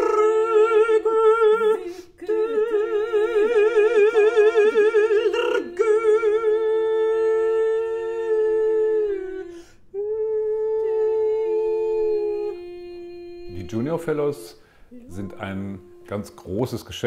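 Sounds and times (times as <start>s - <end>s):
woman singing with vibrato: 0.0s - 16.7s
woman humming held note: 0.0s - 16.8s.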